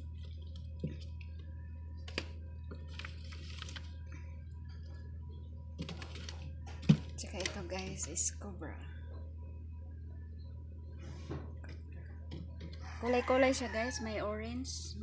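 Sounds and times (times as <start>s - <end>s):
items handled in refrigerator: 0.0s - 9.2s, 10.9s - 14.1s
steady low hum: 0.0s - 15.0s.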